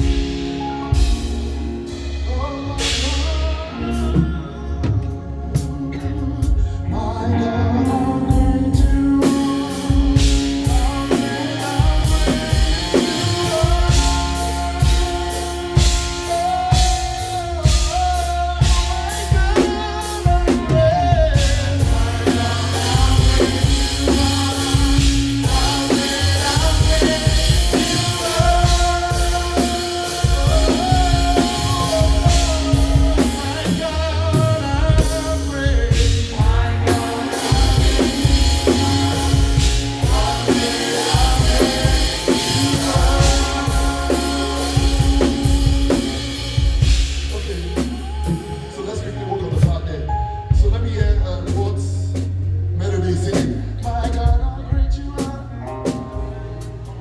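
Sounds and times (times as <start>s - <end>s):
drum kit beat: 0.0s - 6.8s, 8.2s - 49.0s
bass and instruments: 0.0s - 57.0s
voices singing: 0.0s - 57.0s.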